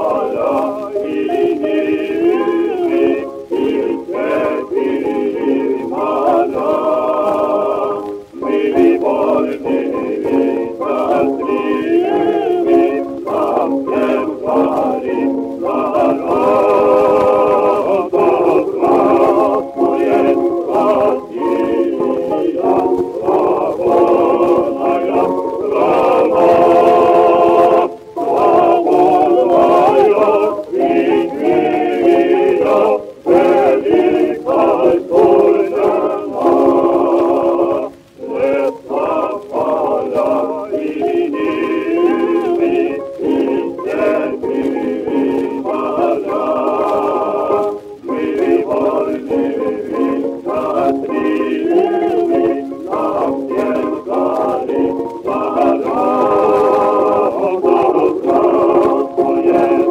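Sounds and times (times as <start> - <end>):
male vocal quartet singing: 0.0 - 59.9.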